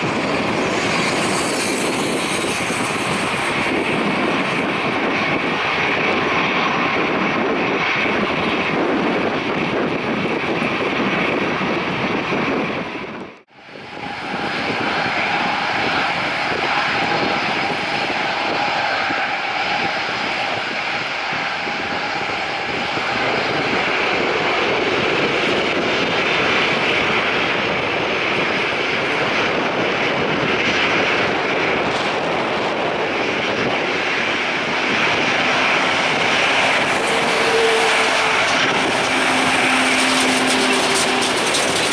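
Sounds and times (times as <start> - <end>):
jet engines rushing and whining: 0.0 - 41.9.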